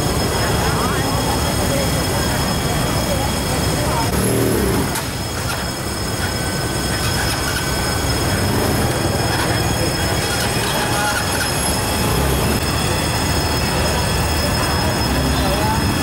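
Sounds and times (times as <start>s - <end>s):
thin high whine: 0.0s - 16.0s
water pump engine and water jet rushing: 0.0s - 16.0s.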